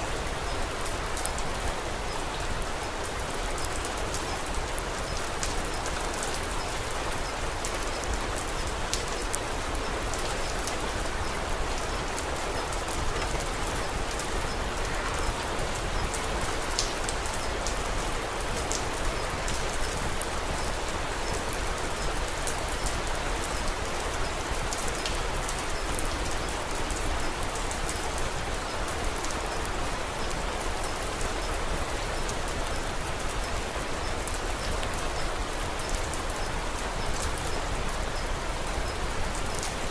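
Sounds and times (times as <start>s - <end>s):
steady rain hiss: 0.0s - 39.9s
raindrops ticking: 0.2s - 39.9s.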